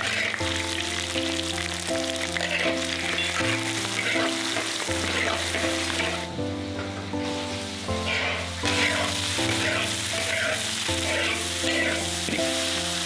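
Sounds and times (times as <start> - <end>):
oil sizzling in a wok: 0.0 - 13.0
soft background music: 0.0 - 13.0.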